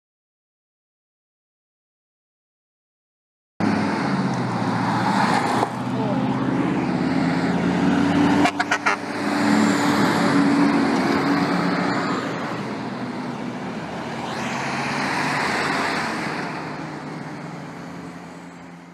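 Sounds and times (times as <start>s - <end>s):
cars passing: 3.6s - 18.9s
dump truck engine driving by: 3.6s - 18.9s.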